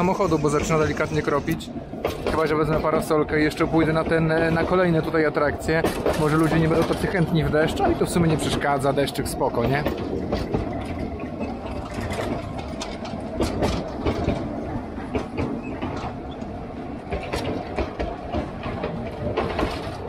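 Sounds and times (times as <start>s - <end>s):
rail joint clicks and knocks: 0.0s - 20.0s
train wheels rumbling on track: 0.0s - 20.0s.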